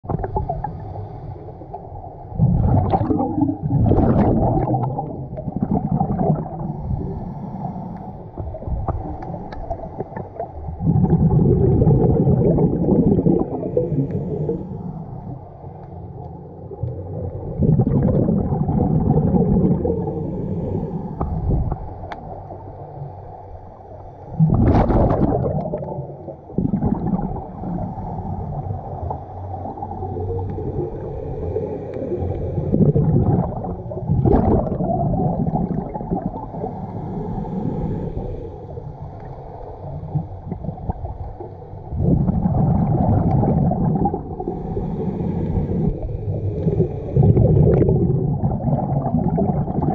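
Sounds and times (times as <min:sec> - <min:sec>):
underwater regulator bubbles: 0:00.0 - 0:01.0, 0:01.7 - 0:15.5, 0:16.2 - 0:23.0, 0:24.3 - 0:49.9.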